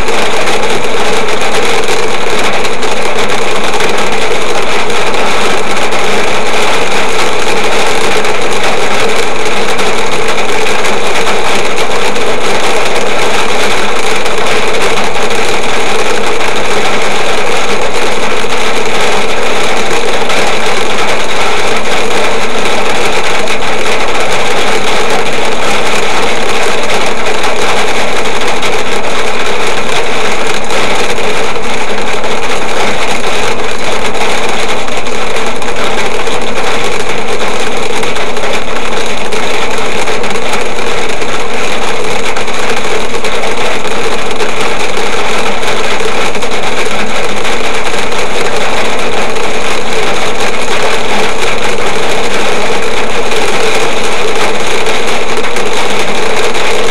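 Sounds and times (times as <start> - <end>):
hail and rain drumming on car roof: 0.0 - 56.8.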